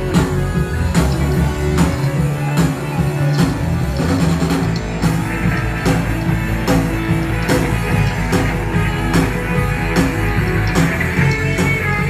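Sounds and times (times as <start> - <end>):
electric guitars: 0.0 - 12.0.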